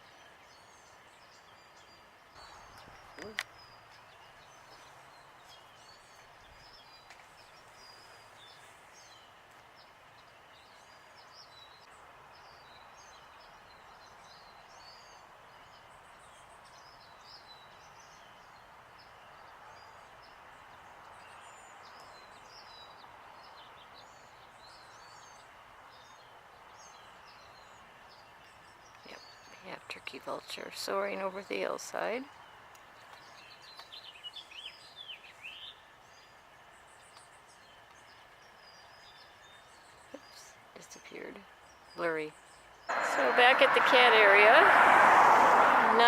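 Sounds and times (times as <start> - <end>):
faint outdoor background noise: 0.0 - 46.0
songbirds chirping and twittering: 0.0 - 46.0.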